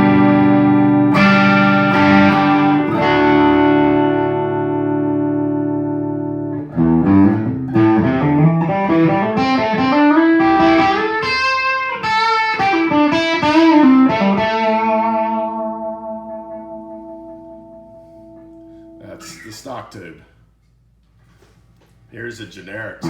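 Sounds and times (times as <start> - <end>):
electric guitar chords and notes: 0.0 - 19.4.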